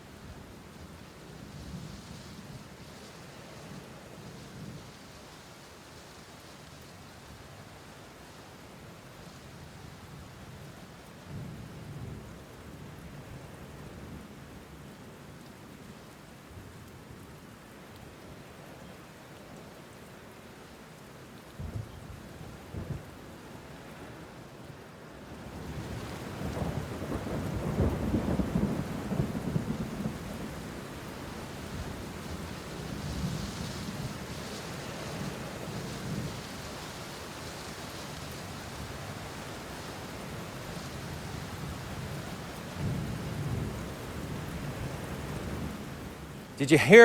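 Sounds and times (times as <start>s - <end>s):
steady hiss like rain: 0.0s - 47.0s.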